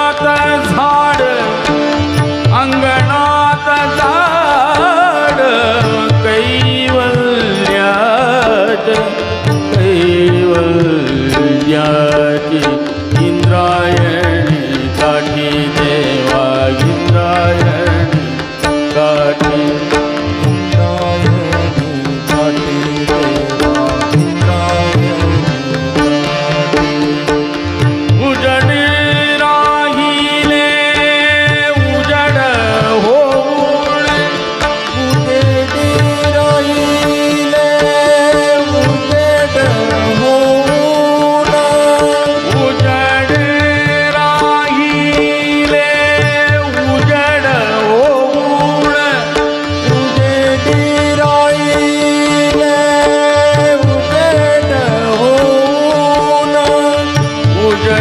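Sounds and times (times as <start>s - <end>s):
harmonium: 0.0s - 58.0s
person singing: 0.0s - 58.0s
tabla playing: 0.0s - 58.0s
tanpura drone: 0.0s - 58.0s.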